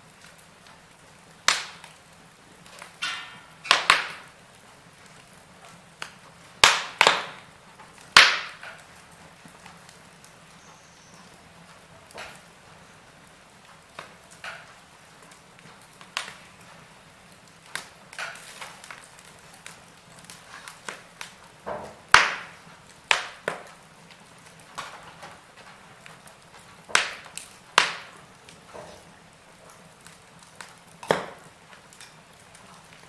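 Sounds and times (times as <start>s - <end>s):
soft steady hiss: 0.0s - 33.0s
wood fire crackling and popping: 0.0s - 33.0s.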